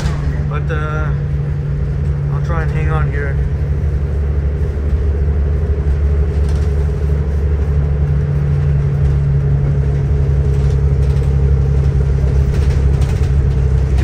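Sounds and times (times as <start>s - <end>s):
bus engine hum: 0.0s - 14.0s
road noise: 0.0s - 14.0s.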